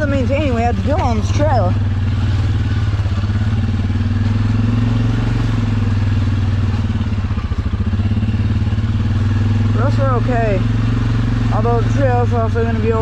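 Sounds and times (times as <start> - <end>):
atv engine running at low revs: 0.0 - 13.0.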